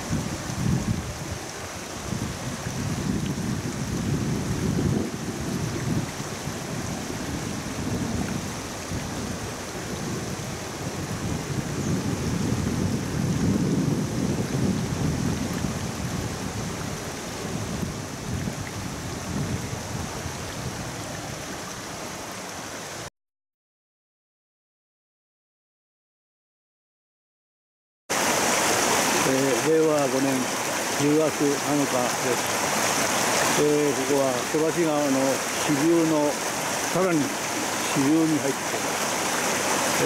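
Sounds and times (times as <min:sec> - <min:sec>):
river rushing over rapids: 0:00.0 - 0:23.1, 0:28.1 - 0:40.0.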